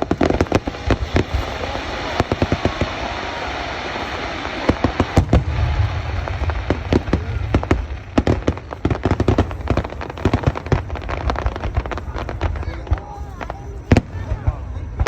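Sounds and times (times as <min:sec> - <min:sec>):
fireworks crackling hiss: 0:00.0 - 0:15.0.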